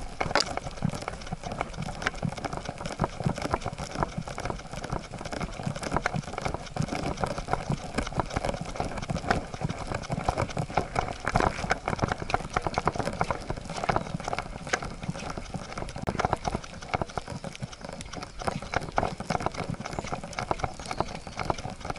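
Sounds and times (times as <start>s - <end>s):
dog claws on wooden boardwalk: 0.0s - 21.9s
dog paws on dirt trail: 0.0s - 21.9s.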